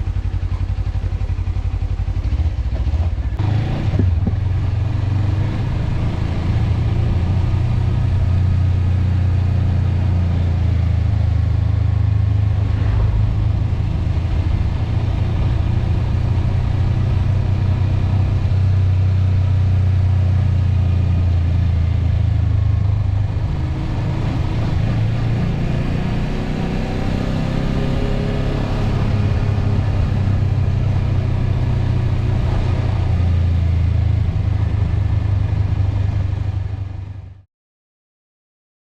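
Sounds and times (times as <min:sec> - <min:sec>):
vehicle engine droning: 0:00.0 - 0:37.4.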